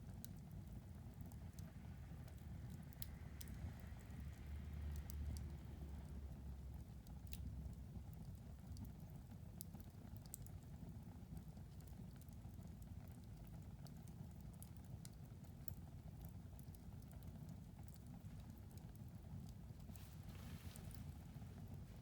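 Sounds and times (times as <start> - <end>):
low rumble of flames: 0.0 - 22.0
fire crackling and popping: 0.1 - 22.0.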